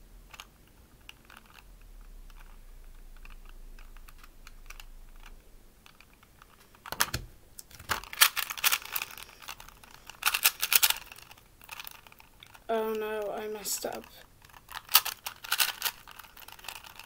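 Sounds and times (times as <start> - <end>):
puzzle cube clicking: 0.3 - 17.0.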